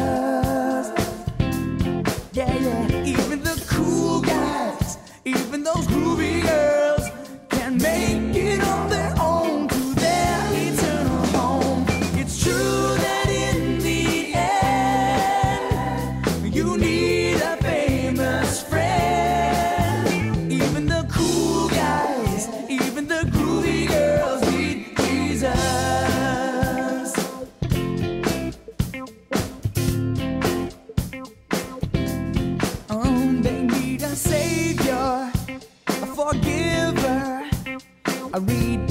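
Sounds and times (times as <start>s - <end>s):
upbeat worship song with band: 0.0s - 38.9s.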